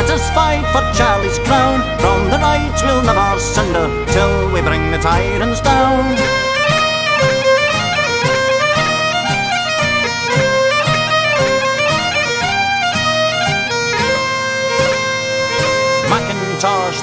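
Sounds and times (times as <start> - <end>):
bagpipes playing lively melody: 0.0 - 17.0
regular beat: 0.0 - 17.0.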